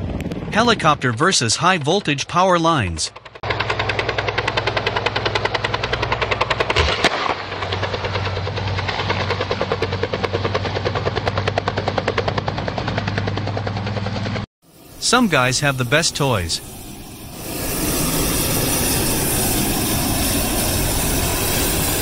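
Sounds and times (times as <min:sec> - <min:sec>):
helicopter engine hum: 0:00.0 - 0:22.0
helicopter rotor chop: 0:00.0 - 0:22.0.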